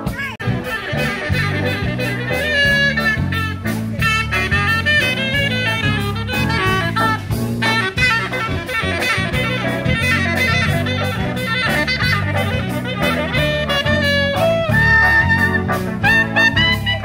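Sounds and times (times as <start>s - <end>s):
bass: 0.0s - 17.0s
drum kit beat: 0.0s - 17.0s
saxophone and brass melody: 0.0s - 17.0s.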